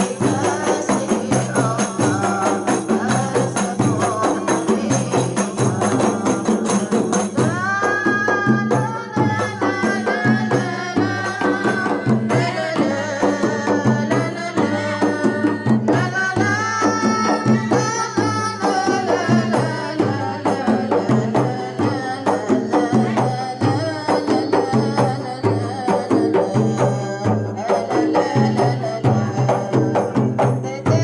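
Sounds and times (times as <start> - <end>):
frame drums beating: 0.0 - 31.0
person singing: 0.0 - 31.0.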